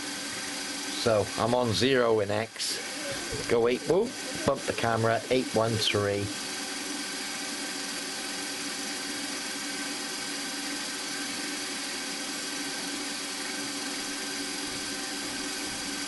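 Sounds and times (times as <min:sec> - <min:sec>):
drill bit cutting aluminium: 0:00.0 - 0:16.0
milling machine spindle humming: 0:00.0 - 0:16.0.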